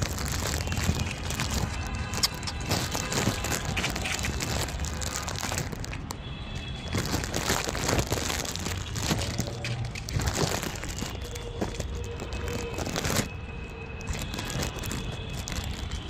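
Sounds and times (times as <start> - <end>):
puppies crunching food: 0.0 - 13.3, 14.0 - 16.0.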